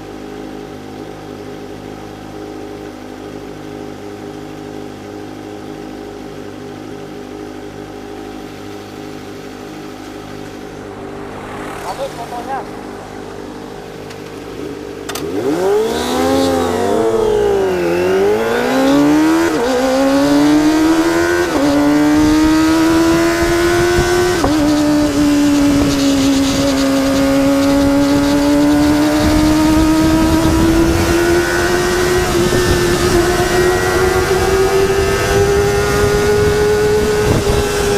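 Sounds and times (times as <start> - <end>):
motorcycle engine revving and accelerating: 1.6 - 37.9.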